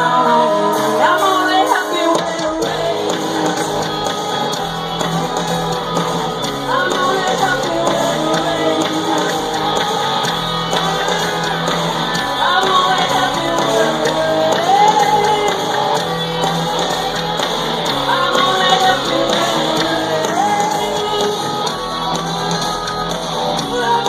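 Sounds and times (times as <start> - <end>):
crowd shouting and whooping: 0.0 - 24.0
live rock band with electric guitar: 0.0 - 24.0.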